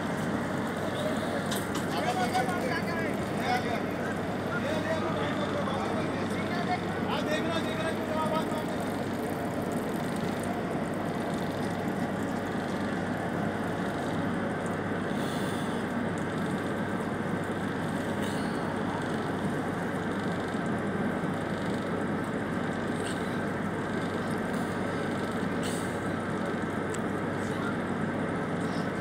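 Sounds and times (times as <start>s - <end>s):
train rumble and hiss: 0.0s - 29.0s.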